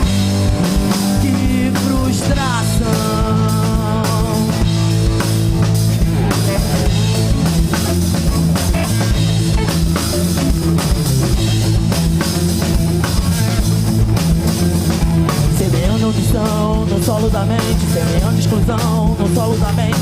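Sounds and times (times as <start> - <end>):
bass guitar: 0.0 - 20.0
drum kit beat: 0.0 - 20.0
electric guitars: 0.0 - 20.0.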